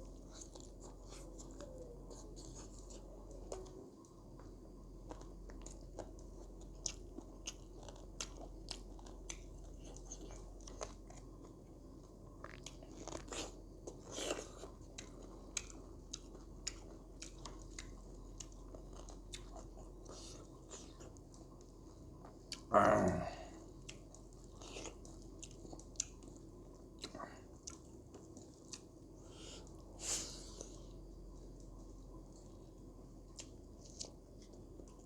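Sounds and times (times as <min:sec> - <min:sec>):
person chewing and crunching: 0:00.0 - 0:35.0.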